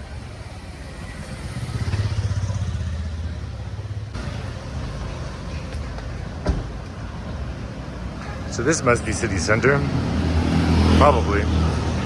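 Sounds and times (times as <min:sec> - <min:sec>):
vehicle engine passing close: 0:00.0 - 0:07.2, 0:07.8 - 0:12.0
traffic noise: 0:00.0 - 0:12.0.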